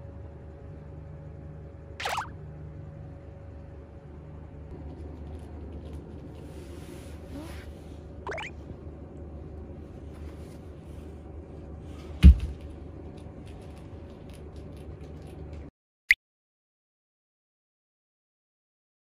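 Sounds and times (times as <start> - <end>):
low indoor hum: 0.0 - 15.7.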